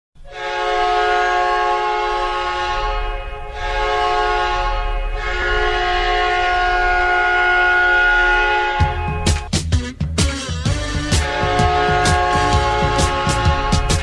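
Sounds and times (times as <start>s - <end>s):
arena goal horn blast: 0.2s - 9.5s, 10.4s - 14.0s.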